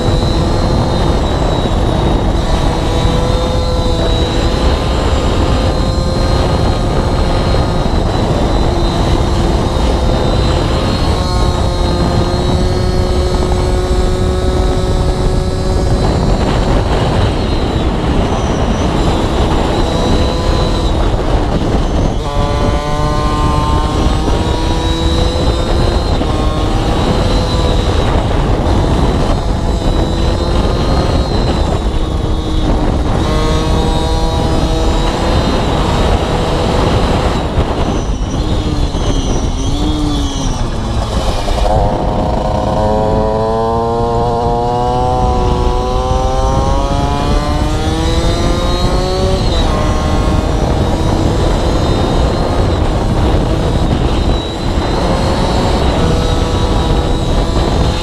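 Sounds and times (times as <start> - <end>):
motorcycle engine accelerating: 0.0 - 58.0
wind on microphone: 0.0 - 58.0.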